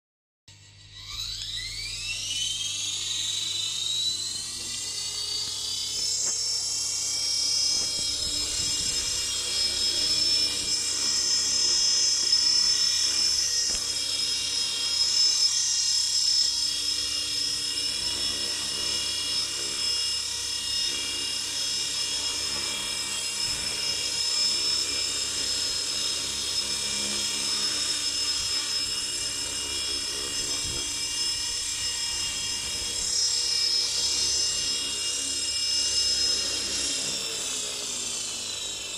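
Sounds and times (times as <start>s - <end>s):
model helicopter motor whine: 0.5s - 38.9s.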